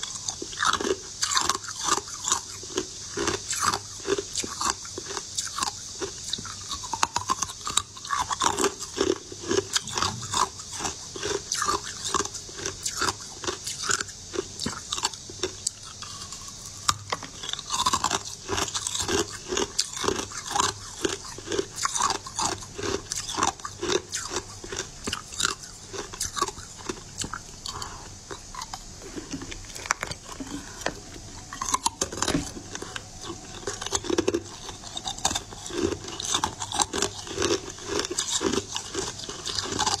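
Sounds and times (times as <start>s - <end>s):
chewing: 0.0s - 40.0s
crunching sweets: 0.0s - 40.0s.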